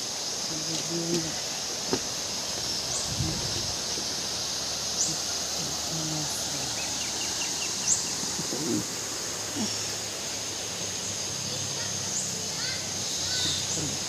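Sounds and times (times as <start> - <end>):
river hissing: 0.0 - 14.0.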